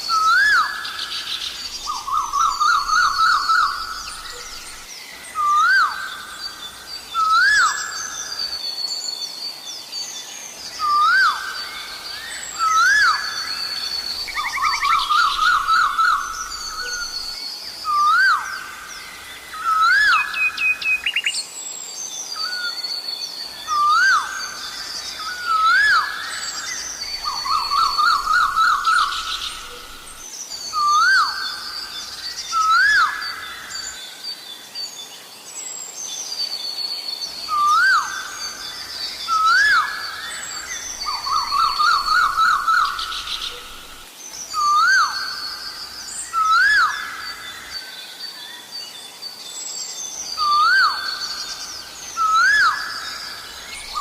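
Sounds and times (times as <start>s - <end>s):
faint songs of other birds: 0.0s - 54.0s.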